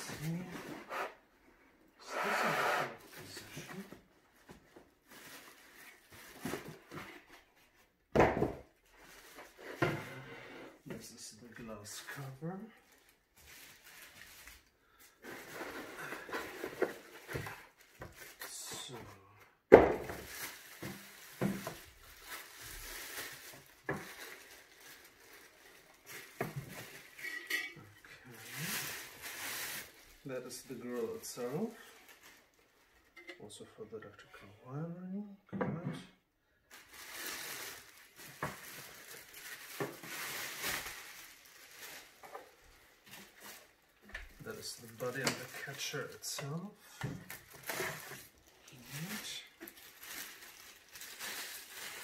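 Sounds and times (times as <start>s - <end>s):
plastic film rustling and crinkling: 0.0s - 1.2s, 2.9s - 9.9s, 10.8s - 19.3s, 20.0s - 33.2s, 36.7s - 52.0s.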